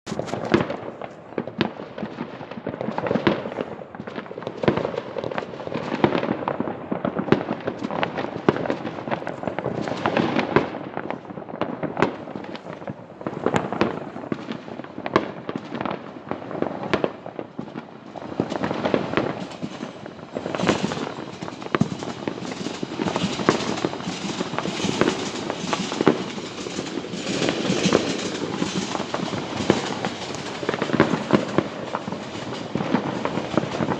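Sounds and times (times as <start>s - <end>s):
distant fireworks crackling: 0.1s - 33.9s
sharp firework bangs: 0.1s - 33.9s.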